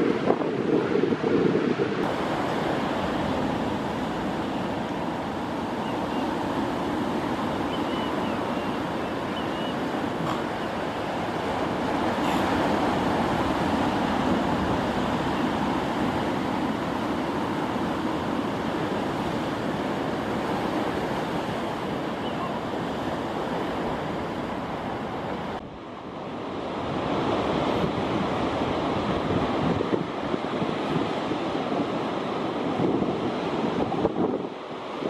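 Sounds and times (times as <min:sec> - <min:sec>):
wind on microphone: 0:00.0 - 0:25.8, 0:26.6 - 0:35.0
ocean surf washing on beach: 0:00.0 - 0:35.0.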